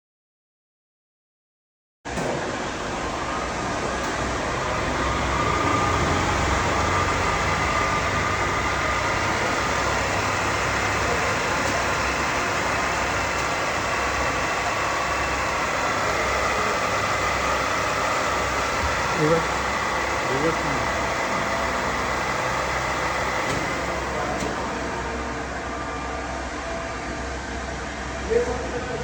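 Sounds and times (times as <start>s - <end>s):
milling machine humming: 2.1s - 29.0s.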